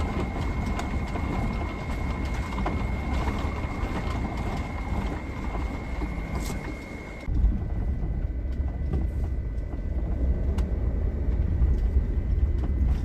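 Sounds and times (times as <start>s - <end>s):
low road rumble: 0.0s - 13.0s
small clicks and rattles: 0.0s - 13.0s.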